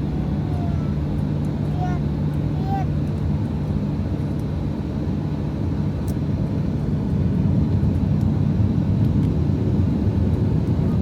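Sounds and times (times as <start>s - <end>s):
airliner engines and runway rumble: 0.0s - 11.0s.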